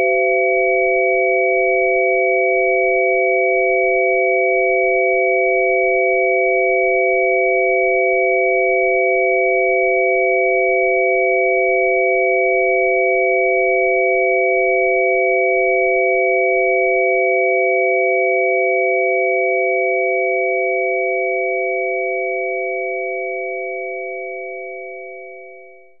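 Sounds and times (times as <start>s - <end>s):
low electronic sine chord: 0.0s - 26.0s.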